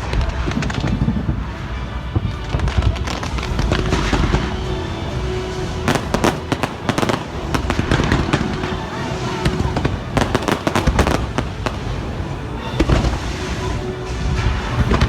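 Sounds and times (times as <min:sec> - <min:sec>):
fireworks banging and crackling: 0:00.0 - 0:15.0
music playing: 0:00.0 - 0:15.0.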